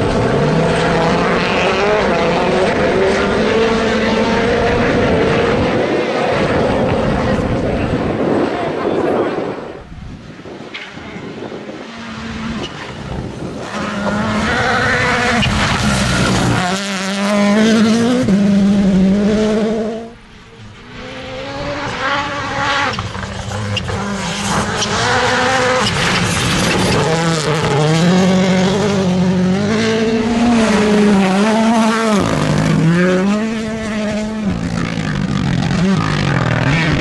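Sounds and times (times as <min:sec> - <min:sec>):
rally car engines revving hard: 0:00.0 - 0:09.7, 0:10.6 - 0:37.0.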